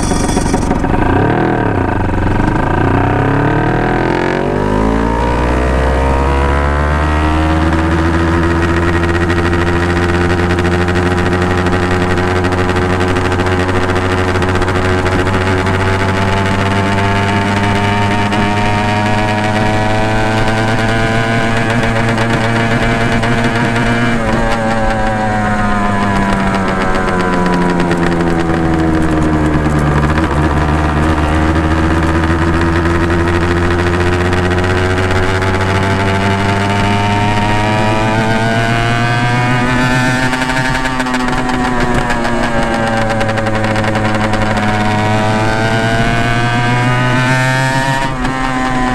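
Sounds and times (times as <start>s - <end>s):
two-stroke motorcycle exhaust: 0.0s - 48.9s.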